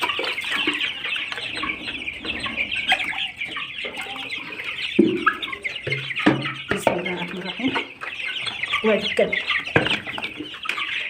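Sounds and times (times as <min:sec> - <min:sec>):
chicks cheeping: 0:00.0 - 0:11.0.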